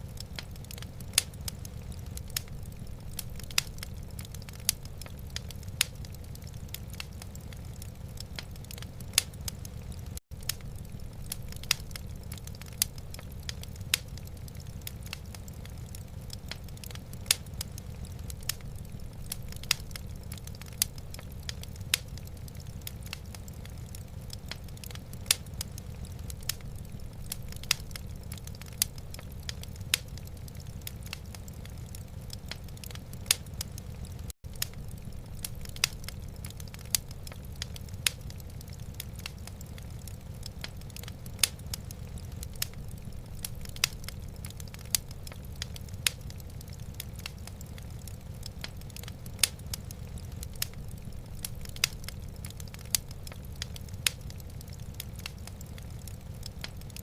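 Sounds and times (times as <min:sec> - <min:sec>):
logs crackling and popping: 0:00.0 - 0:57.0
low fire rumble: 0:00.0 - 0:57.0.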